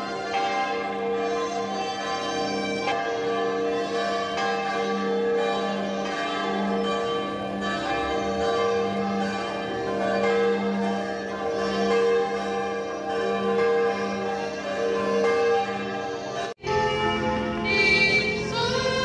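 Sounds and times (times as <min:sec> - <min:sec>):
church bells pealing: 0:00.0 - 0:19.0.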